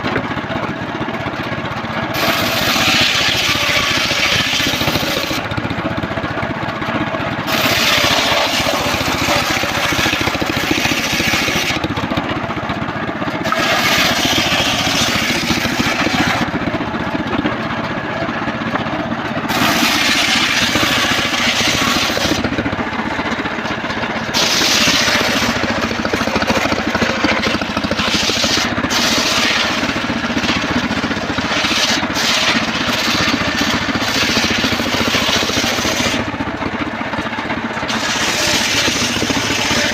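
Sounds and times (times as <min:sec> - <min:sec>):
sawmill engine running: 0:00.0 - 0:39.9
saw blade cutting timber: 0:02.0 - 0:39.9.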